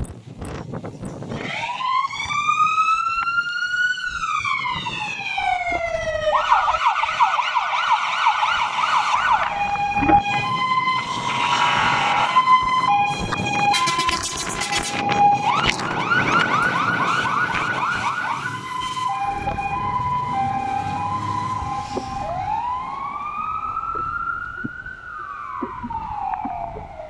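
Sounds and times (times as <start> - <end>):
fire engine siren: 1.3 - 27.0.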